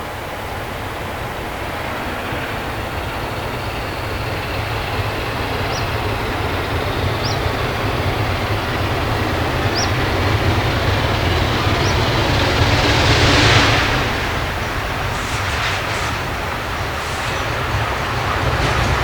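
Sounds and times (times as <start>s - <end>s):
rush of noise: 0.0s - 19.0s
steam train rumbling: 0.0s - 19.0s.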